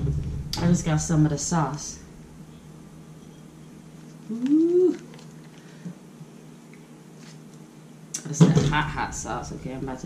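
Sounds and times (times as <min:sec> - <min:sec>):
low hum with faint hiss: 0:00.0 - 0:10.0.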